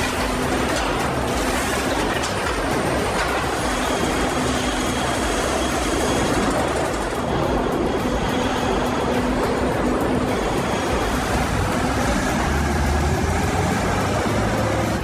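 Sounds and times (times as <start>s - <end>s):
machinery rumble and clatter: 0.0s - 15.0s.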